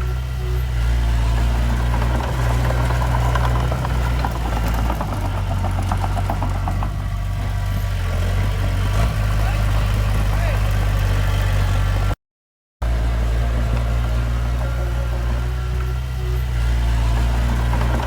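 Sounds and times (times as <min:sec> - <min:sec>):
heavy machinery diesel engine: 0:00.0 - 0:12.2, 0:12.8 - 0:18.0.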